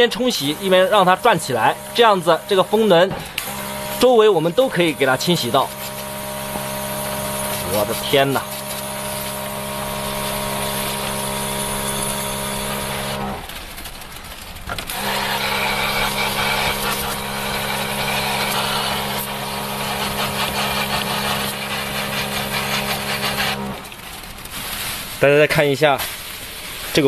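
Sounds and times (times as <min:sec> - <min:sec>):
water jet spraying: 0:00.0 - 0:13.5, 0:14.9 - 0:27.0
pressure washer motor hum: 0:00.0 - 0:27.0.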